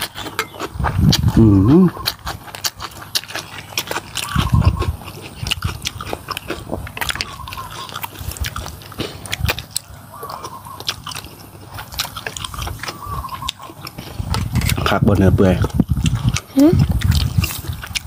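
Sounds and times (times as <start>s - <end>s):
wet mouth clicks: 0.0s - 15.0s, 15.6s - 18.0s
chewing noodles: 0.0s - 18.0s.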